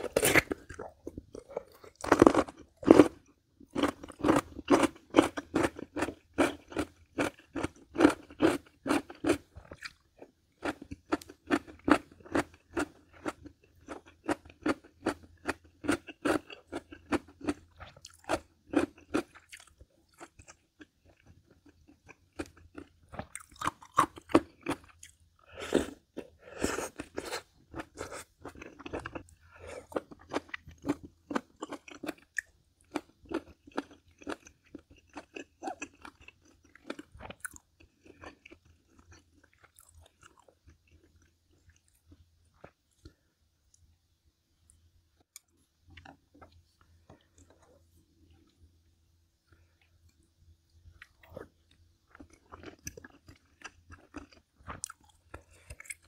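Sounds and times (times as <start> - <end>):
chewing crunchy food: 0.0 - 43.9, 44.6 - 48.7, 49.4 - 56.0.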